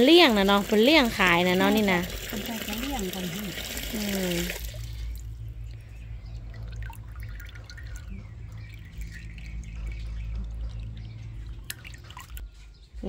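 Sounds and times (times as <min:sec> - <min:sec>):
water dripping and trickling: 0:00.0 - 0:13.0
spoon splashing water: 0:00.4 - 0:12.5.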